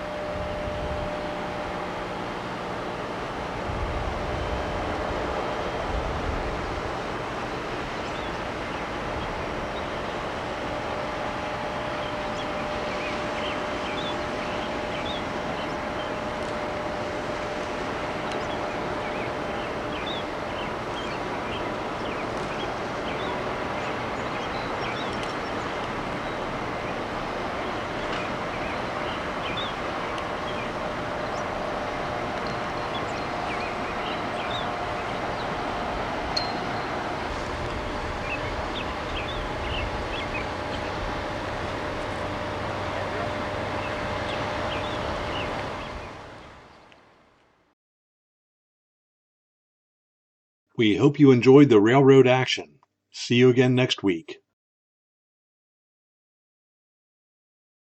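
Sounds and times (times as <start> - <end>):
train rumbling past: 0.0 - 46.8.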